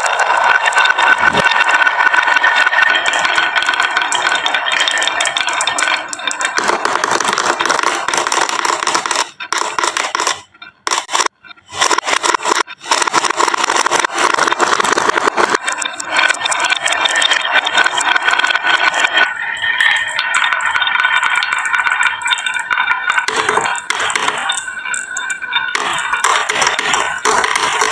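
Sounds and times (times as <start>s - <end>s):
marbles clattering down wooden track: 0.0s - 27.9s.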